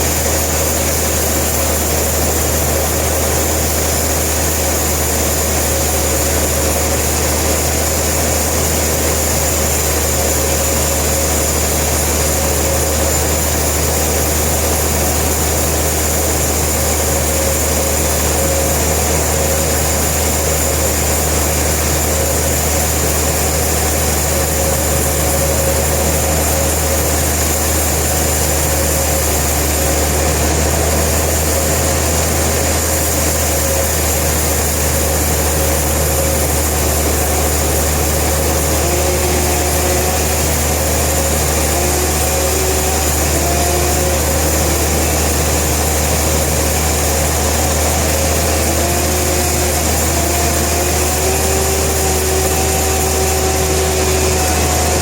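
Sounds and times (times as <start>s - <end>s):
sawmill machinery drone: 0.0s - 55.0s.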